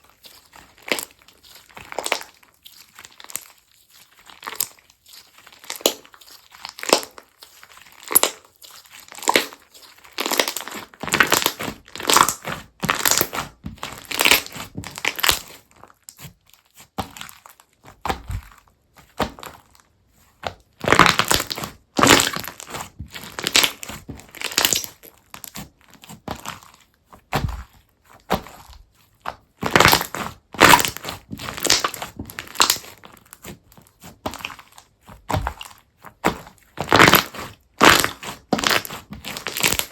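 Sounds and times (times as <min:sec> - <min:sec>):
hands crunching crunchy slime: 0:00.0 - 0:39.9.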